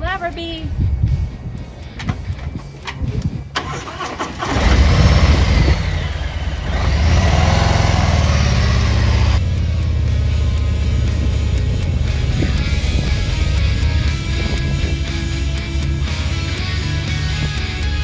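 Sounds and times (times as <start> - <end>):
motorcycle engine idling: 2.2 - 18.0.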